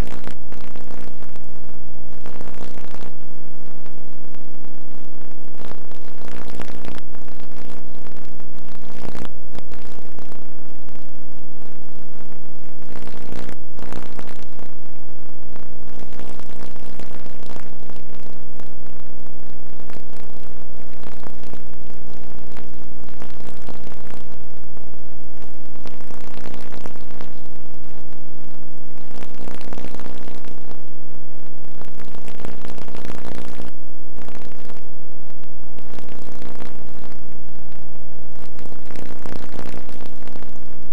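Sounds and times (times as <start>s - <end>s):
crackles: 0.0s - 40.9s
electrical hum and buzz: 0.0s - 40.9s.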